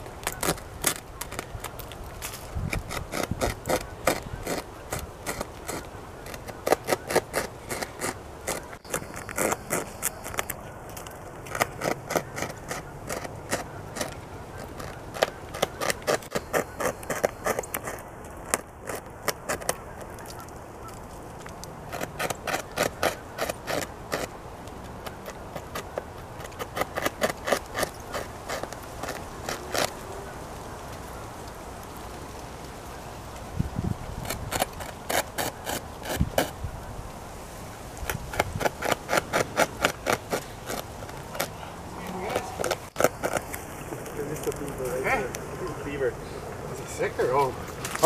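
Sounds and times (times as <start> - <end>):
beaver gnawing wood: 0.0 - 48.0.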